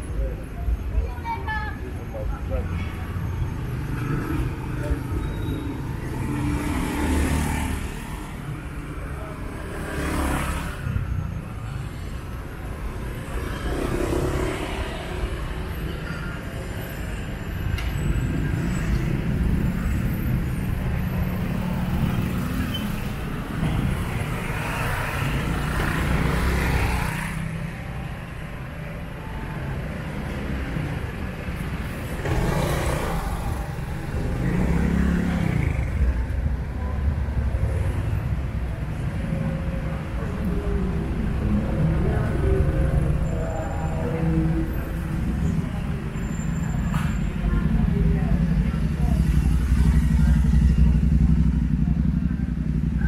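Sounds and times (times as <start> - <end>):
road traffic rumble: 0.0 - 53.0
vehicles passing close by: 0.0 - 53.0.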